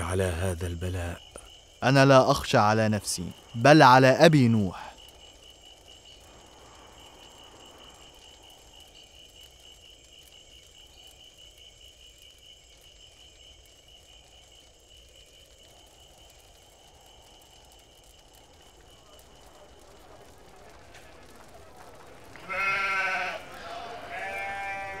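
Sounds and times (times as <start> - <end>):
crickets trilling: 0.0 - 25.0
low background hiss: 0.0 - 25.0.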